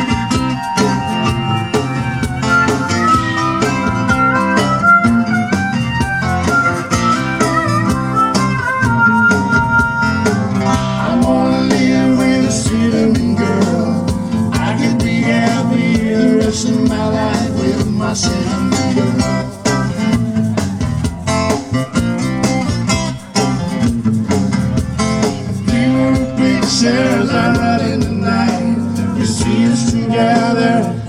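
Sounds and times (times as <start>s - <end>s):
live band playing country-rock: 0.0s - 31.0s.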